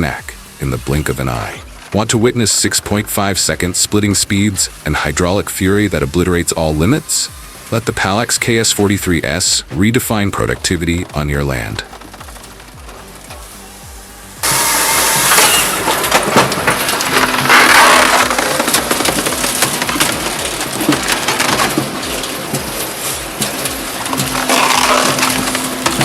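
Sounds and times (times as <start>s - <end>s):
wood cracking and splintering: 0.0s - 13.7s, 14.4s - 26.0s
firewood processor running: 0.0s - 26.0s.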